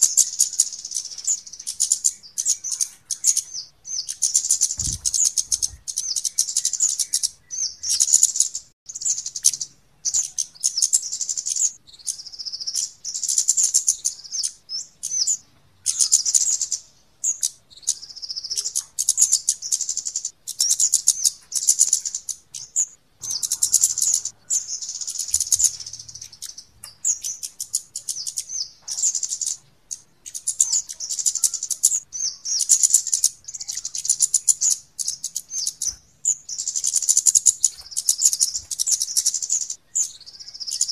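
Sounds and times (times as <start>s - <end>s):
flowerpecker high-pitched cit calls: 0.0s - 40.9s.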